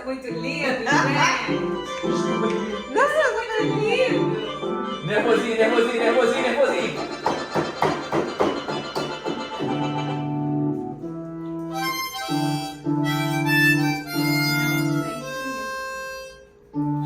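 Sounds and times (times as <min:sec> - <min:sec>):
harmonica playing chords: 0:00.0 - 0:17.0.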